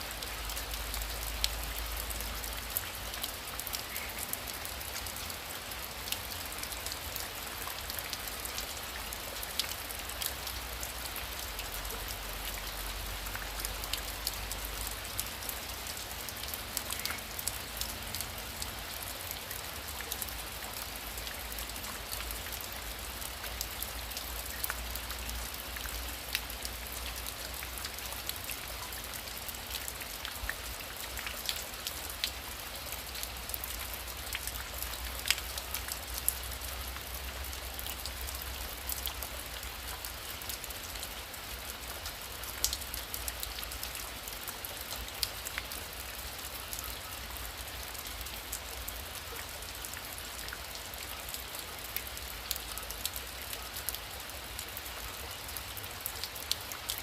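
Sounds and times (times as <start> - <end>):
raindrops ticking on a surface: 0.0 - 57.0.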